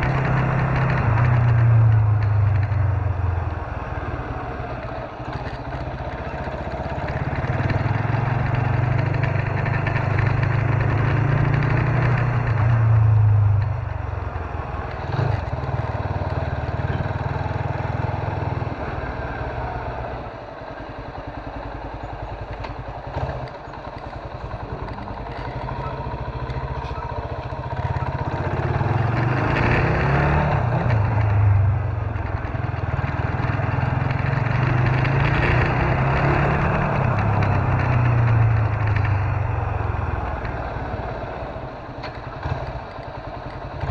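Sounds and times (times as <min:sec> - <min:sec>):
small motorcycle engine running: 0:00.0 - 0:43.9
wind and road noise: 0:00.0 - 0:43.9.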